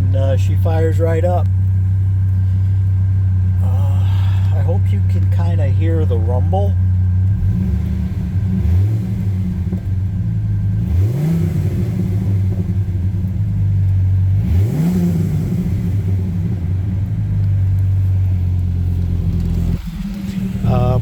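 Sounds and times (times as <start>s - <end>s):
engine idling: 0.0s - 21.0s
engine revving: 3.5s - 21.0s.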